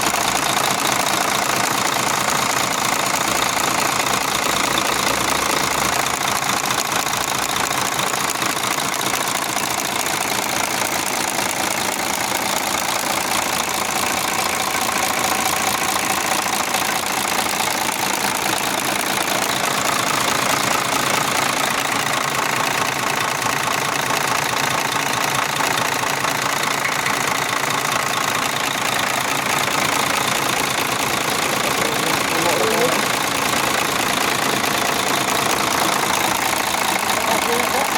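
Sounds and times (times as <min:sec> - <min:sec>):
truck diesel engine idling: 0:00.0 - 0:37.9.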